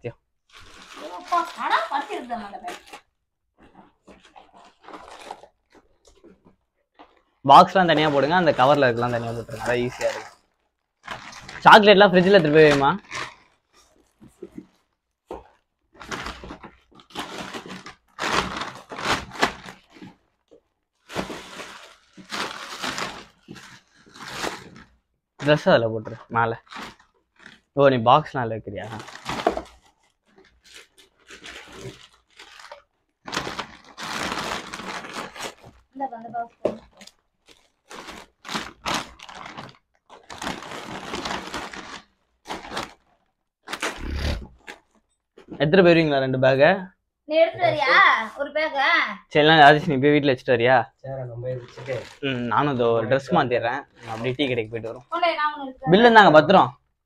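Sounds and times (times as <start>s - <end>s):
plastic bags rustling: 0.5s - 27.8s, 28.8s - 45.6s, 51.5s - 56.1s.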